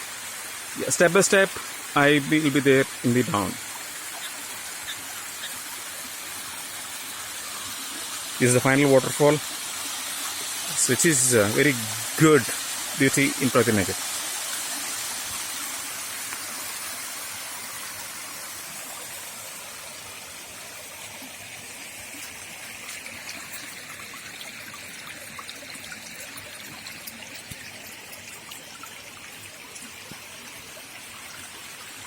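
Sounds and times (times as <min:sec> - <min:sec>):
waterfall rushing and splashing: 0:00.0 - 0:32.0.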